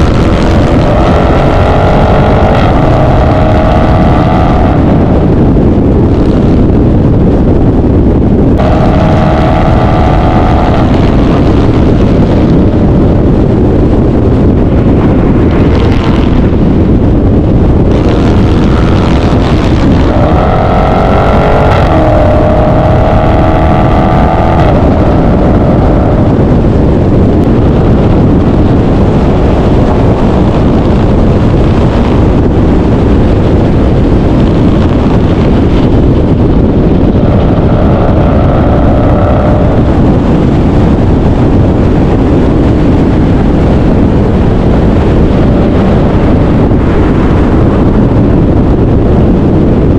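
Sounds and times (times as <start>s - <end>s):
car engines revving: 0.0s - 48.7s.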